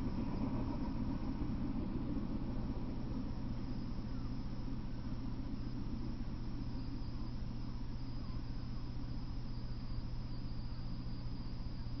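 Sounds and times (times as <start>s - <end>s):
faint flickering rumble: 0.0s - 12.0s
low electrical hum: 0.0s - 12.0s.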